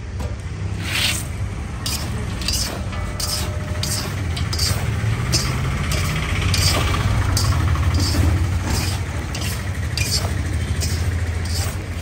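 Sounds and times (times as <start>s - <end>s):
skimmer scraping metal pan: 0.8s - 12.0s.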